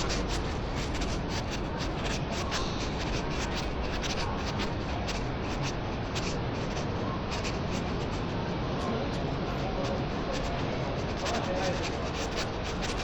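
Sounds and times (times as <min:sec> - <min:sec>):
low city street rumble: 0:00.0 - 0:13.0
scratchy rustles and scuffs: 0:00.0 - 0:13.0.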